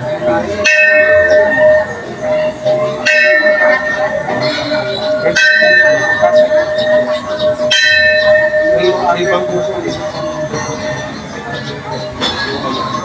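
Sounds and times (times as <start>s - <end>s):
church bell tolling: 0.0s - 13.0s
murmur of voices: 0.0s - 13.0s
steady ringing tone: 0.0s - 13.0s.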